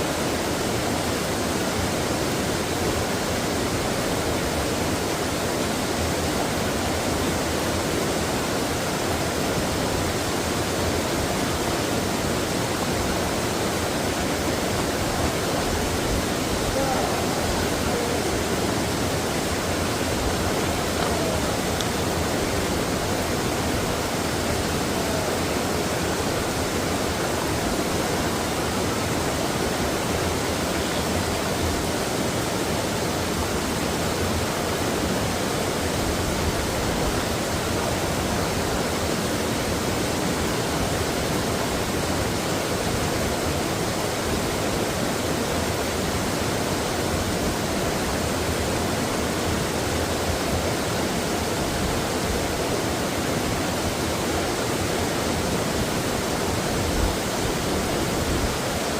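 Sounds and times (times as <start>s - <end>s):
stream water rushing: 0.0s - 58.9s.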